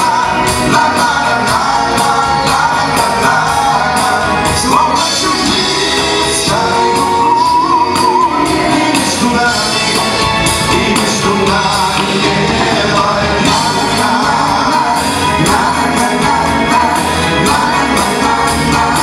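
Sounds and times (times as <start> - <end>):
bass guitar: 0.0 - 19.0
drums: 0.0 - 19.0
electric guitars: 0.0 - 19.0
keyboard: 0.0 - 19.0.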